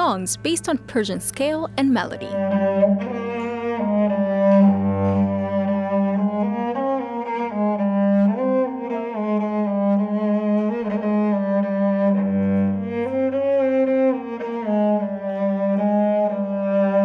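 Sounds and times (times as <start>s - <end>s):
bowed cello melody: 0.0s - 17.0s.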